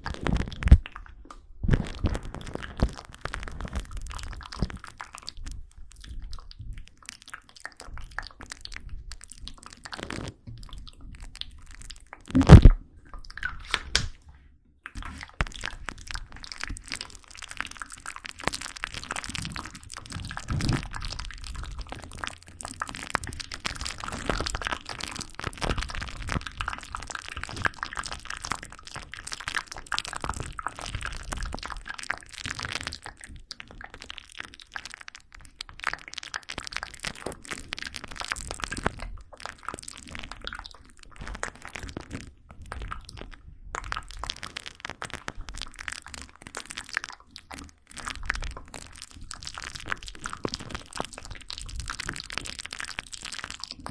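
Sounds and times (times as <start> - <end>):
small crackles and clicks: 0.0 - 53.9.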